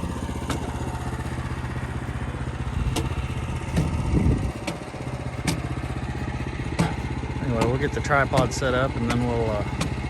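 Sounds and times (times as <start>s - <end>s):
engine idling: 0.0s - 10.0s
engine knocking: 0.0s - 10.0s.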